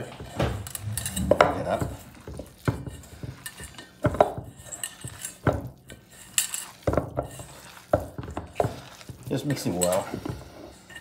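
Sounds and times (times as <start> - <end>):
wet churning of meat: 0.0 - 11.0.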